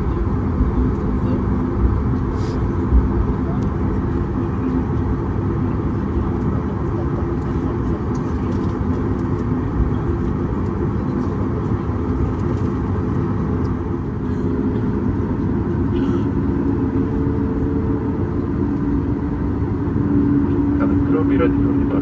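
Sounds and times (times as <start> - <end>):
jet engines running: 0.0 - 22.0
low cabin rumble: 0.0 - 22.0.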